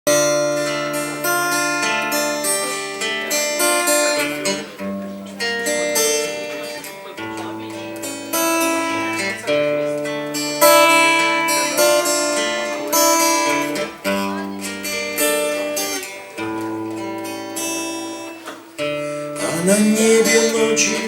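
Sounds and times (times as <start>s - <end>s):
guitar chords: 0.0s - 21.0s.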